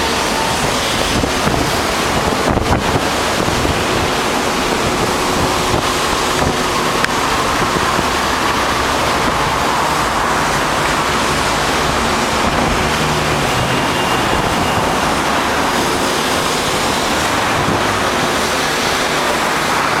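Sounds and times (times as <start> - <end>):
strong wind on microphone: 0.0 - 20.0.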